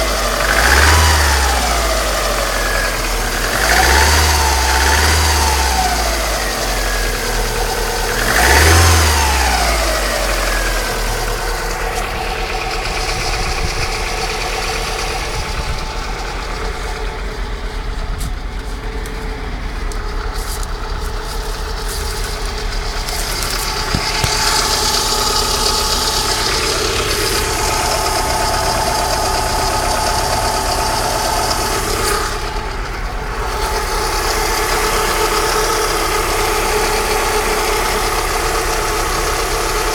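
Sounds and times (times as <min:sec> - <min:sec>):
car engine running and revving: 0:00.0 - 0:39.9.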